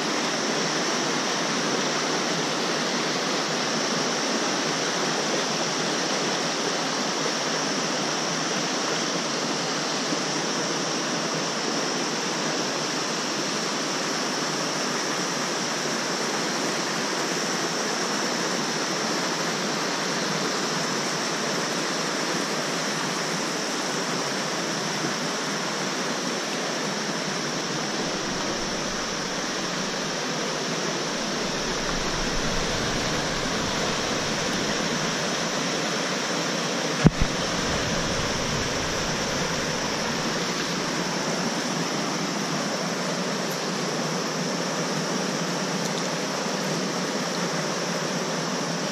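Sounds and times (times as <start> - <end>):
river rushing over boulders: 0.0 - 48.9.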